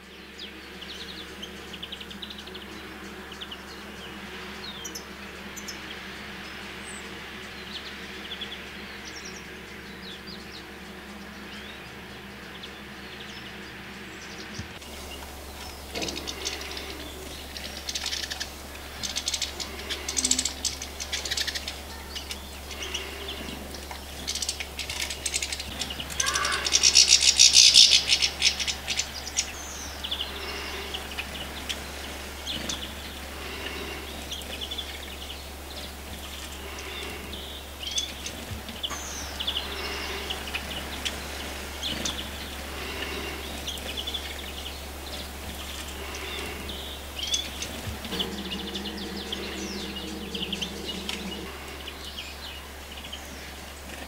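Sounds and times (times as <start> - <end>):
goldfinches chirping and twittering: 0.0 - 54.0
steady low hum: 0.0 - 54.0.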